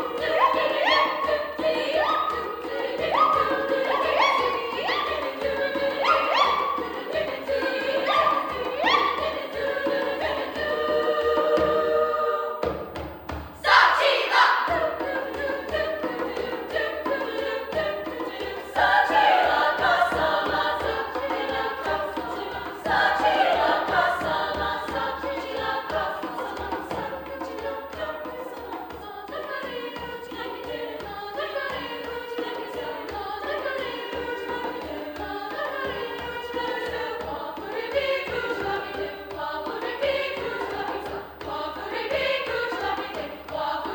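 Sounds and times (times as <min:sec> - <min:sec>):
choir singing in parts: 0:00.0 - 0:43.9.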